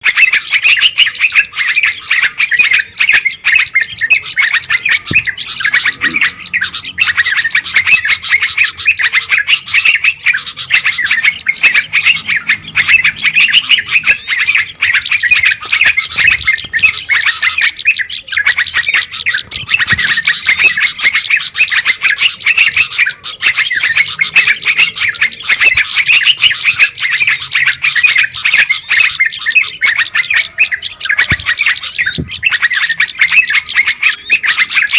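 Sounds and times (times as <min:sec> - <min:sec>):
songbirds chattering and chirping: 0:00.0 - 0:34.9.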